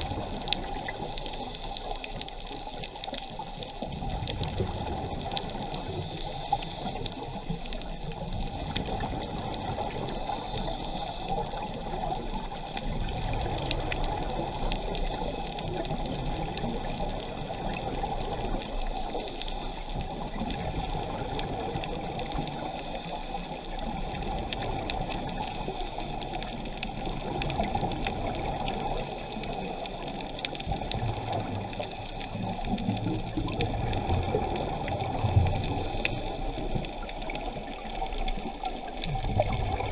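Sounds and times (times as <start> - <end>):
underwater water noise: 0.0 - 39.9.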